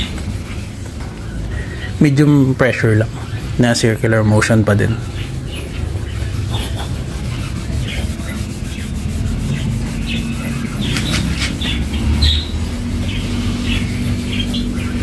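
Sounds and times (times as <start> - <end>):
cloth rubbing on car paint: 0.0 - 15.0.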